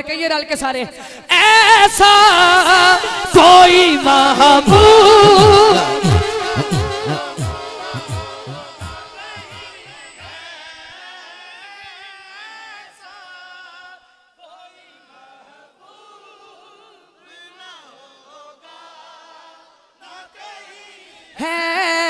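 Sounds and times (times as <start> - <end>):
distant group of men singing: 2.0 - 21.3.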